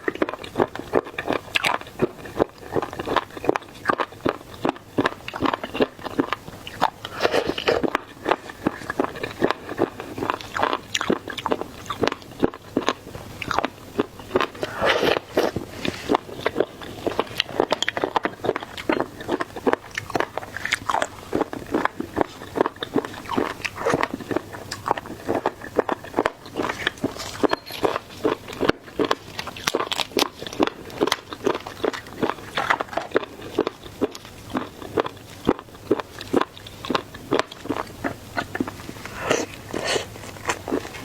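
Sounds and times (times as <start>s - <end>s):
biting and chewing: 0.0s - 41.0s.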